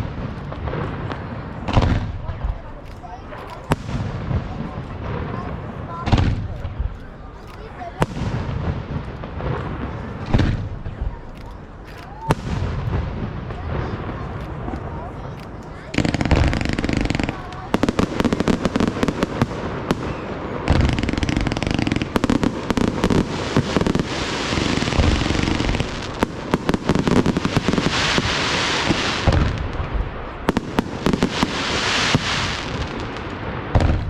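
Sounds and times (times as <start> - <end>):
fireworks bangs: 0.0 - 34.0
fireworks crackling: 0.0 - 34.0.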